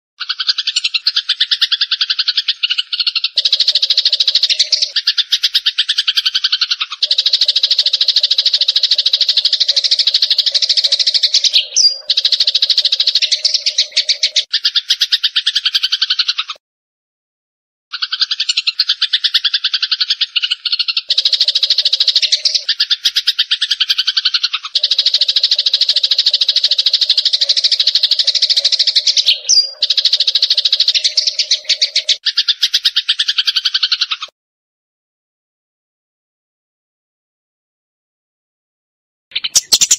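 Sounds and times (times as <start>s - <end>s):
sparrows chirping: 0.2s - 16.6s, 17.9s - 34.3s, 39.3s - 39.9s.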